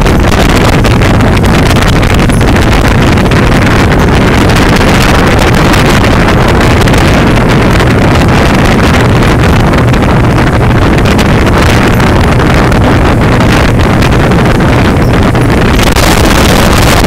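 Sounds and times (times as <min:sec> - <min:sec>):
motorboat running noise: 0:00.0 - 0:17.0
wind rushing over microphone: 0:00.0 - 0:17.0.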